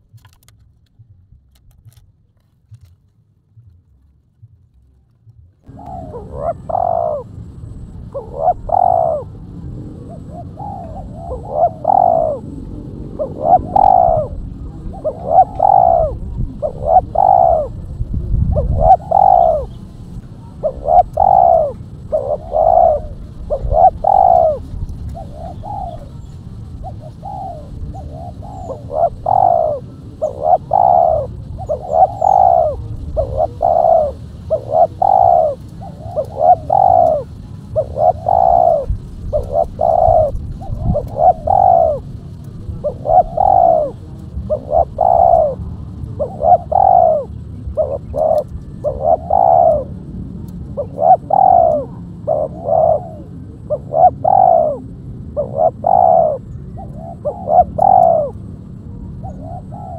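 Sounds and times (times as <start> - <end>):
dove cooing: 5.7 - 59.9.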